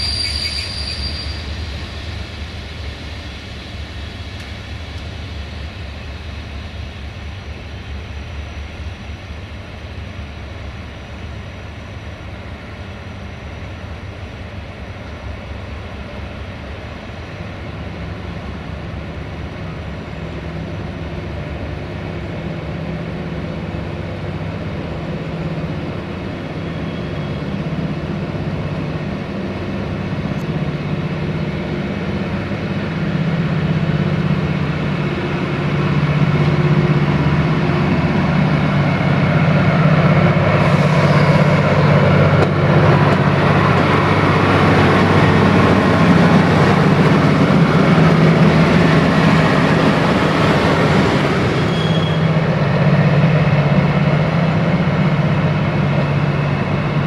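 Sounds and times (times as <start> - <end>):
train moving slowly: 0.0 - 57.0.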